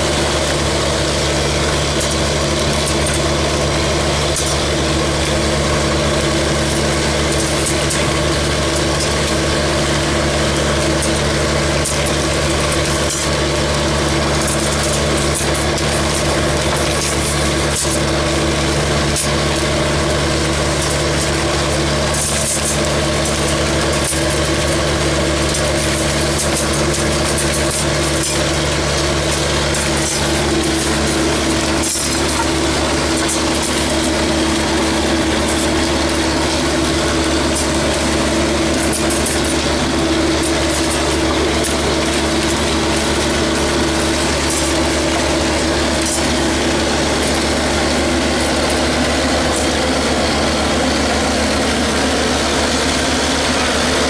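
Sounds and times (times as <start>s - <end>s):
industrial vacuum humming: 0.0s - 54.0s
stones rattling in hose: 0.0s - 54.0s.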